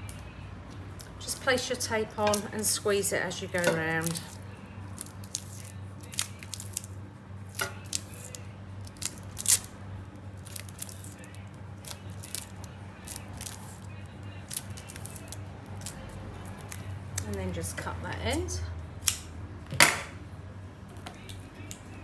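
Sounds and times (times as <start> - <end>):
sticky tape crackling: 0.0 - 18.4, 20.9 - 22.0
steady low hum: 0.0 - 22.0.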